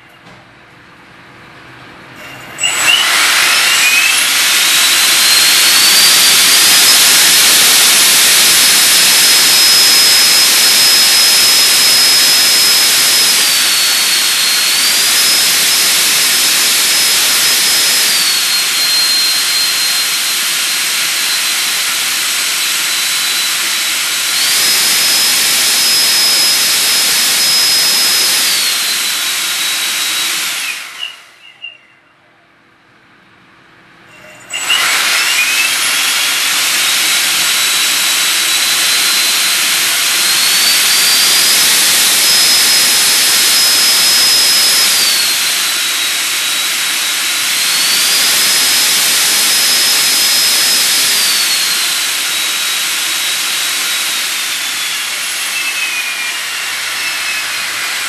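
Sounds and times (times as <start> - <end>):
electric ducted fan whine: 0.0 - 58.0.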